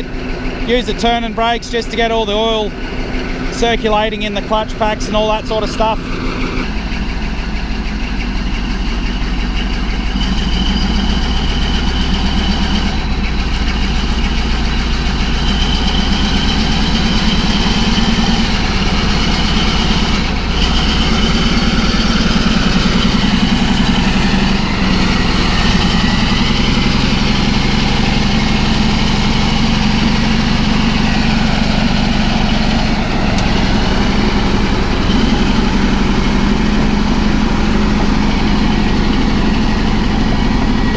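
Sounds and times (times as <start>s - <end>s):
bulldozer diesel engine running: 0.0s - 40.9s
high whine: 0.0s - 40.9s.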